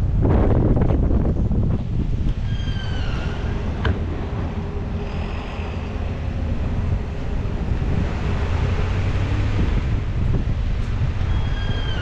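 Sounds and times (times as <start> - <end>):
low vehicle rumble: 0.0 - 12.0
road or wind noise: 0.0 - 12.0.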